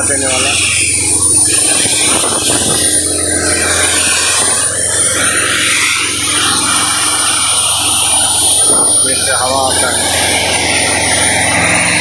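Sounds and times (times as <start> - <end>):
diesel air compressor running: 0.0 - 12.0.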